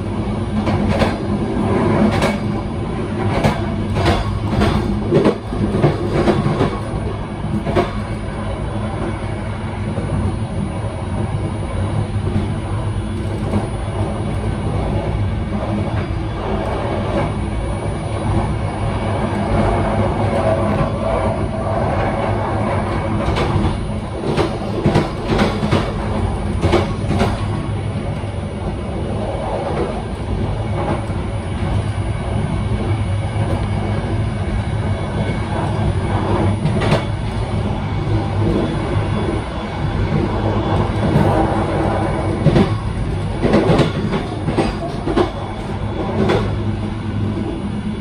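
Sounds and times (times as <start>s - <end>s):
train rumbling on track: 0.0s - 48.0s.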